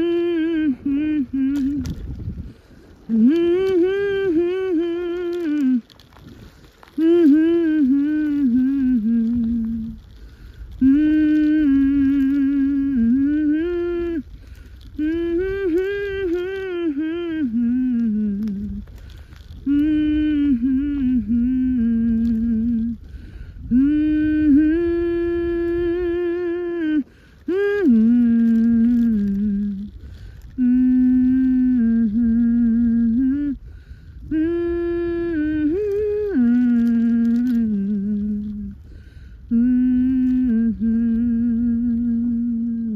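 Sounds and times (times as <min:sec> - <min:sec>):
person humming a tune: 0:00.0 - 0:02.2, 0:03.1 - 0:06.0, 0:06.9 - 0:10.1, 0:10.7 - 0:19.0, 0:19.6 - 0:38.8, 0:39.4 - 0:42.9
steady low rumble: 0:00.0 - 0:42.9.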